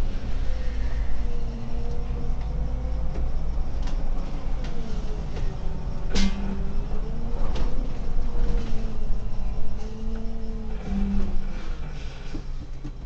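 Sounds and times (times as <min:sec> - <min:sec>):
bus engine and road rumble: 0:00.0 - 0:13.0
wavering whine: 0:00.0 - 0:13.0.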